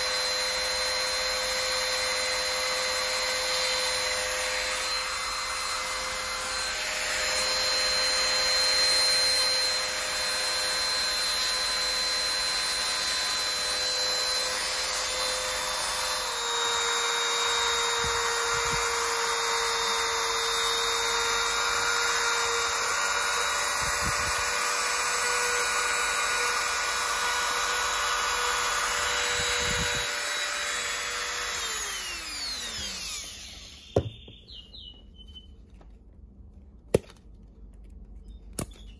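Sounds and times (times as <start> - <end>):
rotary tool whining: 0.0 - 35.5.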